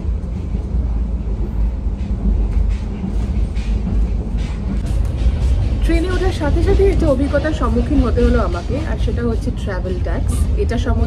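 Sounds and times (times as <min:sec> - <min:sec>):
train carriage rumbling on rails: 0:00.0 - 0:11.0.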